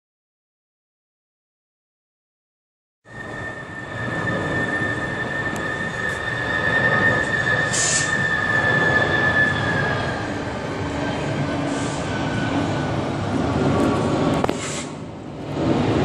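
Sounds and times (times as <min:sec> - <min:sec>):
jet engines passing overhead: 0:03.1 - 0:16.0.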